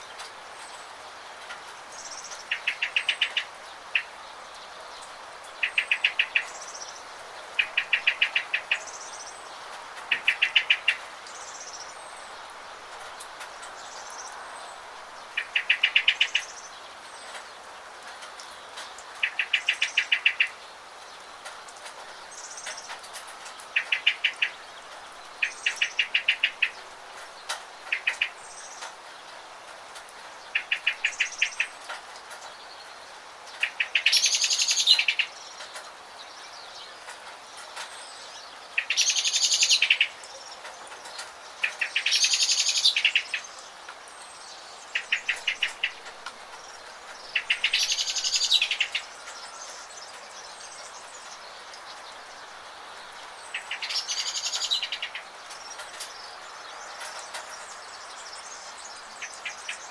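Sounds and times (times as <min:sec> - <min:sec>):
rain hissing: 0:00.0 - 0:59.9
songbirds trilling: 0:00.0 - 0:59.9.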